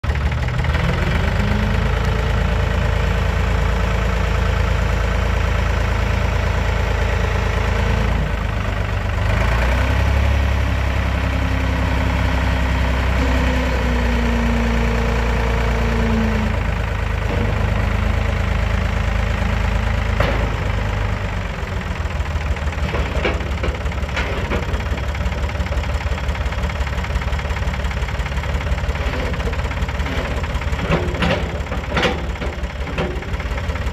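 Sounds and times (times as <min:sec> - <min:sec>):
backhoe engine running: 0:00.0 - 0:33.9.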